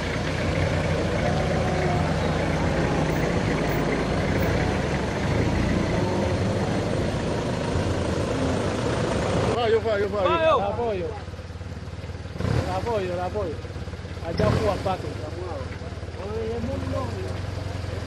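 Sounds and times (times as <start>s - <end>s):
car engines running at low speed: 0.0s - 18.0s.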